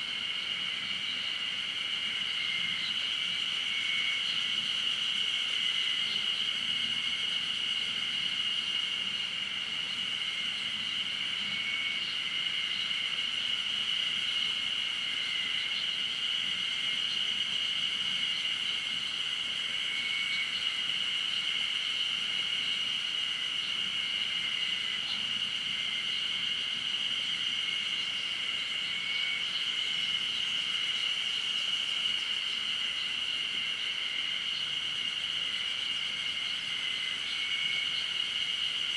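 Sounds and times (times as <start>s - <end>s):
high-pitched insect trill: 0.0s - 38.9s
lower insect call: 0.0s - 38.9s.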